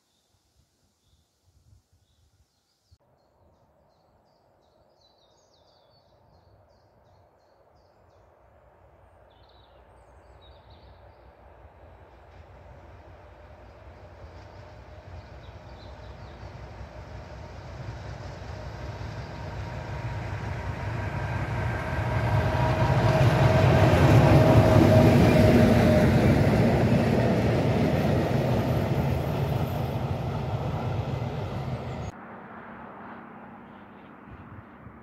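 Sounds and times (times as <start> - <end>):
train rumbling past on rails: 6.6 - 35.0.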